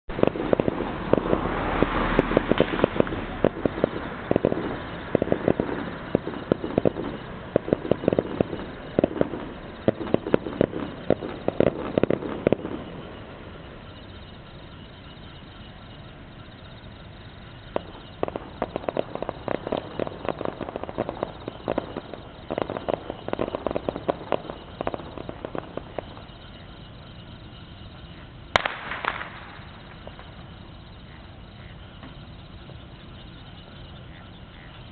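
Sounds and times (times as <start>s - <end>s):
fireworks crackling: 0.1s - 34.9s.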